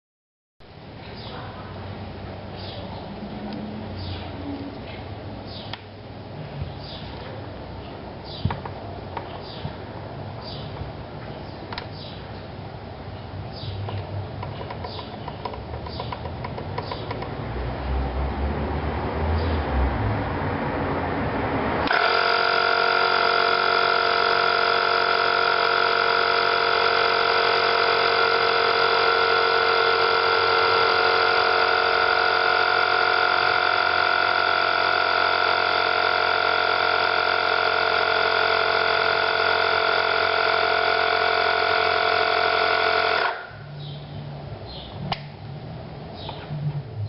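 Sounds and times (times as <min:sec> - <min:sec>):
compressor buzzing hum: 0:00.6 - 0:18.0, 0:20.5 - 0:47.0.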